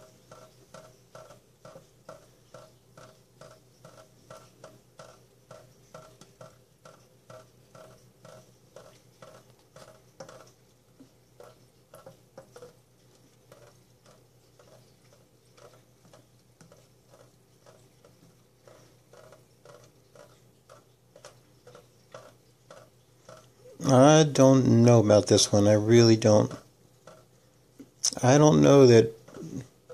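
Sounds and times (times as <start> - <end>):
cat licking water: 0.0 - 24.2.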